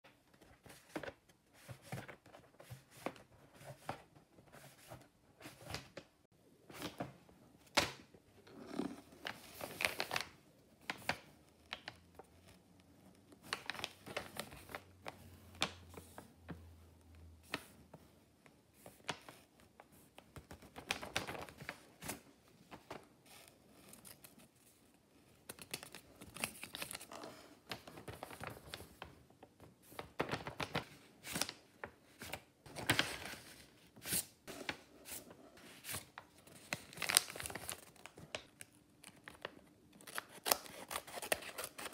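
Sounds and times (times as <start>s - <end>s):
paper rustling and crinkling: 0.3s - 6.1s, 8.8s - 12.6s, 13.3s - 16.2s, 18.8s - 24.8s, 25.4s - 41.9s.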